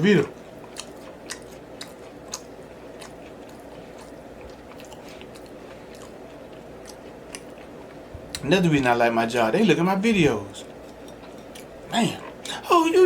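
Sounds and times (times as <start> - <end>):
person chewing food: 0.0 - 8.5, 10.6 - 12.6
steady low hum: 0.0 - 13.0.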